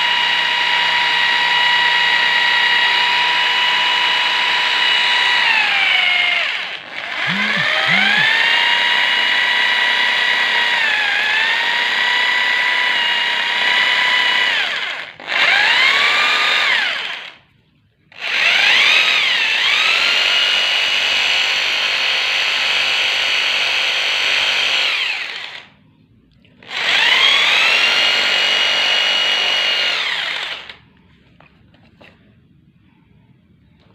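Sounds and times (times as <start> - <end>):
electric drill motor whine: 0.0 - 17.4, 18.2 - 25.7, 26.6 - 30.8.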